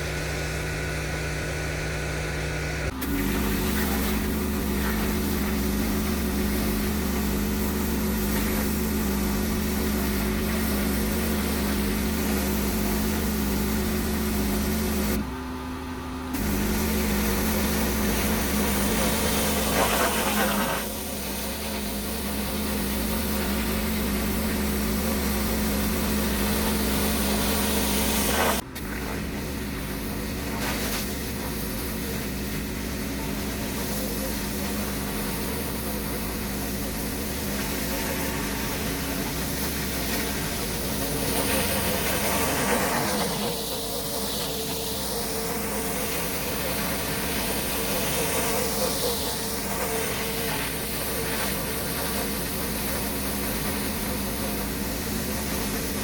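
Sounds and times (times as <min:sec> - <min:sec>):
pressure washer spray hissing: 0:02.9 - 0:15.2, 0:16.4 - 0:56.0.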